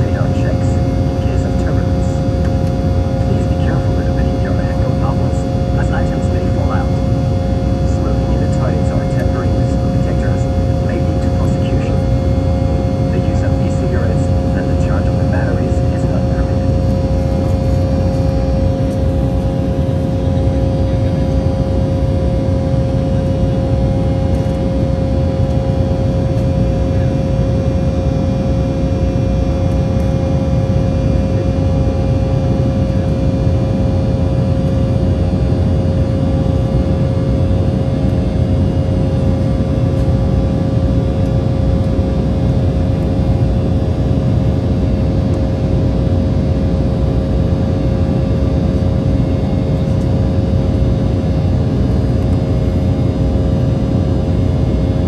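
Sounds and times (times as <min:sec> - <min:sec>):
airliner cabin engine and airflow roar: 0:00.0 - 0:55.0
steady hum tone: 0:00.0 - 0:55.0.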